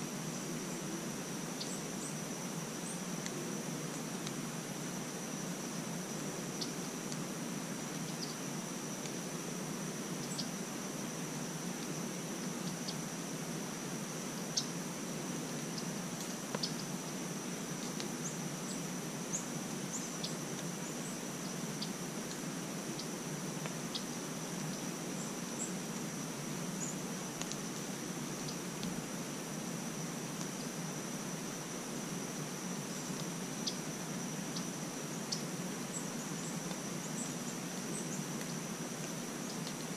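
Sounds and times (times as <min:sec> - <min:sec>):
faint ticks and chirps: 0:00.0 - 0:39.9
low background hiss: 0:00.0 - 0:39.9.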